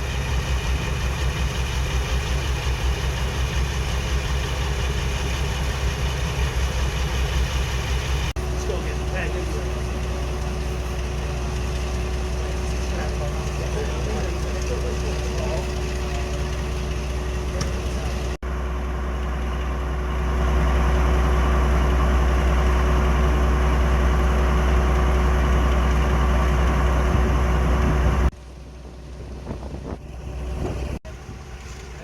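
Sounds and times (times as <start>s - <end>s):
constant tone: 0.0s - 32.0s
diesel locomotive engine drone: 0.0s - 32.0s.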